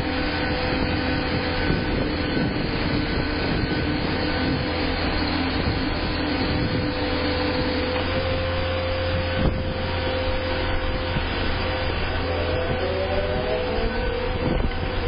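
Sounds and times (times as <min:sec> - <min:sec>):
low machinery hum: 0:00.0 - 0:15.0
machinery whine: 0:00.0 - 0:15.0
rising whine: 0:00.0 - 0:15.0.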